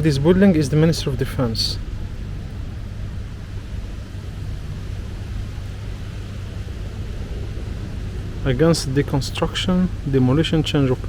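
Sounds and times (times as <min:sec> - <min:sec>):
faint hiss: 0:00.0 - 0:11.0
low background rumble: 0:00.0 - 0:11.0.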